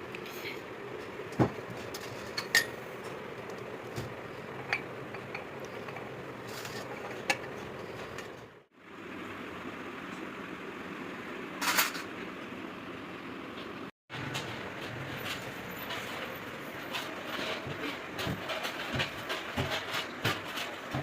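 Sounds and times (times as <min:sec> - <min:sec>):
workshop background noise: 0:00.0 - 0:21.0.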